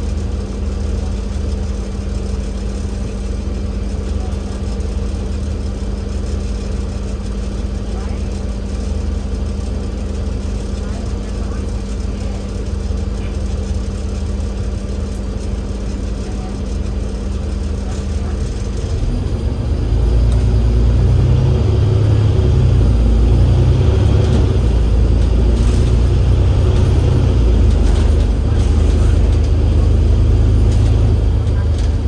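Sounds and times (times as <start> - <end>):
bus diesel engine rumble: 0.0 - 32.0.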